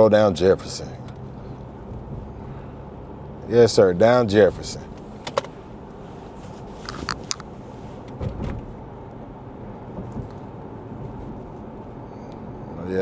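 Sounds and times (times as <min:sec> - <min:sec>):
road and tyre noise inside car: 0:00.0 - 0:13.0.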